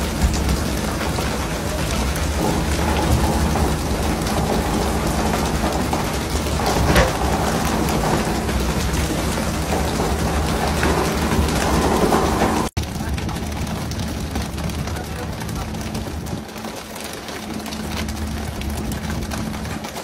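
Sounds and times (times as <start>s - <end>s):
boat engine hum: 0.0s - 20.0s
sea water splashing: 0.0s - 20.0s.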